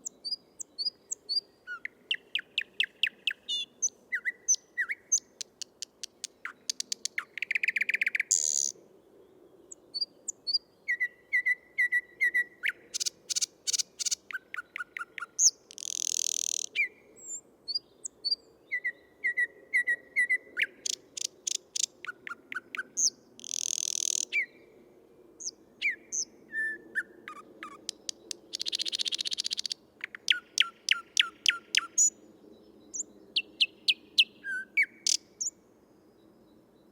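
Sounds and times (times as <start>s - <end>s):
nightingale singing: 0.0s - 8.8s, 9.7s - 24.6s, 25.4s - 32.2s, 32.8s - 35.6s.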